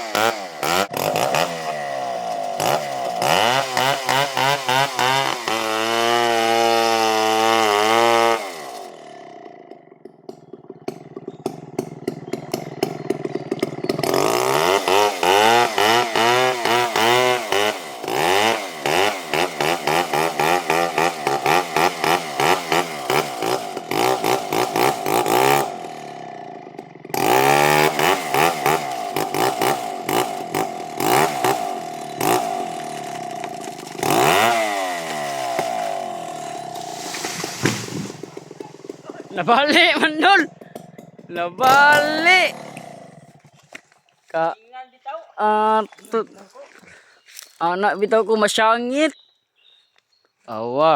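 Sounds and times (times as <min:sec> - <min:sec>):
chainsaw cutting wood: 0:00.0 - 0:44.1.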